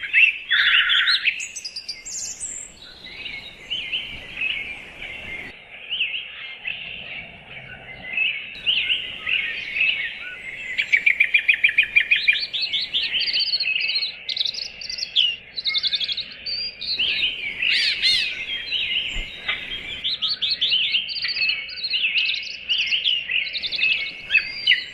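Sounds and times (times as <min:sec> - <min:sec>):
songbirds chirping and twittering: 0:00.0 - 0:24.9.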